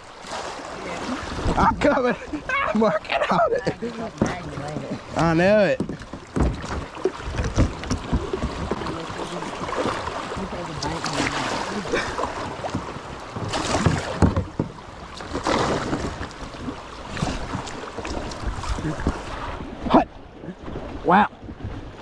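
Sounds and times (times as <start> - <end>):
rushing water: 0.0 - 22.0
kayak hull scraping on rocks: 0.8 - 19.7.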